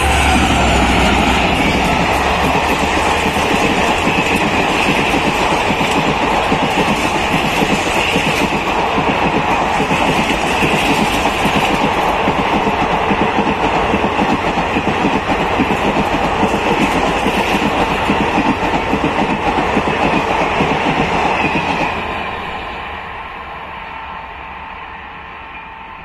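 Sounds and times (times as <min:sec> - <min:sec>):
train wheels clickety-clack on rails: 0:00.0 - 0:23.4.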